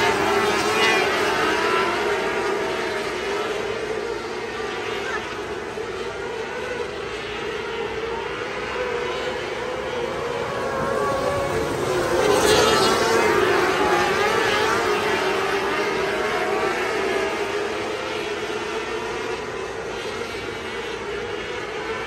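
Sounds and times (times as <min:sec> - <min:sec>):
racing car engines at high revs: 0:00.0 - 0:22.0.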